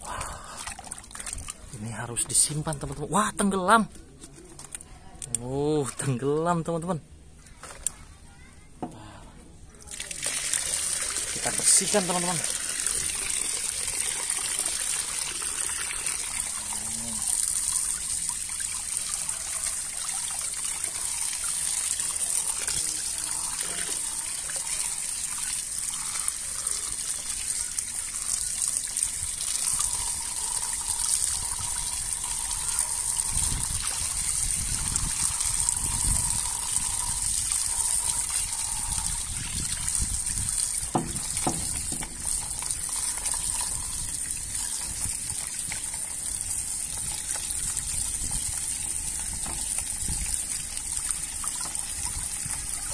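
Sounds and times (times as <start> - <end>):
water splashing in bucket: 0.0 - 3.0, 9.8 - 52.9
water streaming off toy: 9.8 - 52.9.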